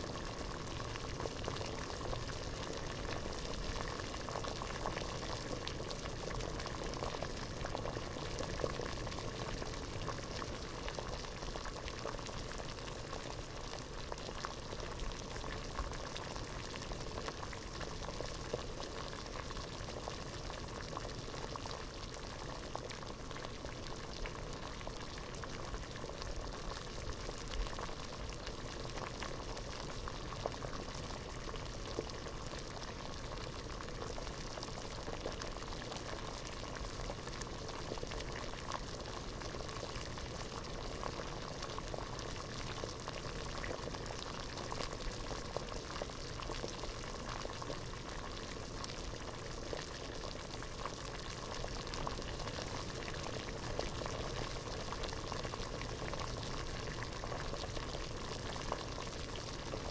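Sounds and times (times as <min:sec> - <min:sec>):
water boiling in a pot: 0:00.0 - 0:59.9.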